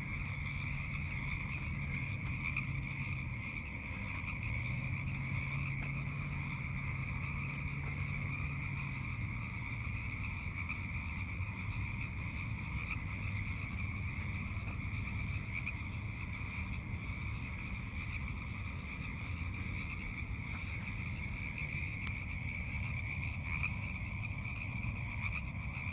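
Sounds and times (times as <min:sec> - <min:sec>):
frogs calling: 0:00.0 - 0:25.8
low steady hum: 0:00.0 - 0:25.8.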